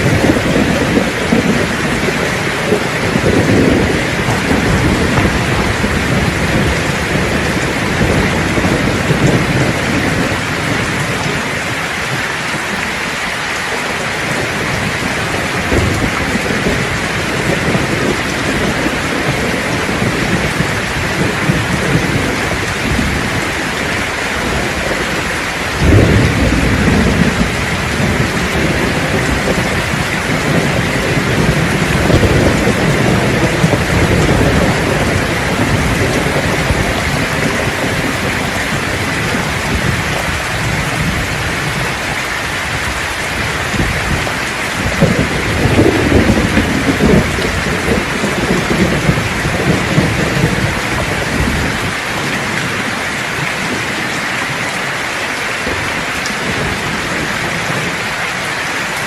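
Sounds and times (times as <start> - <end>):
thunderclap: 0.0 - 54.9
heavy rain: 0.0 - 59.0
rolling thunder: 0.0 - 59.0.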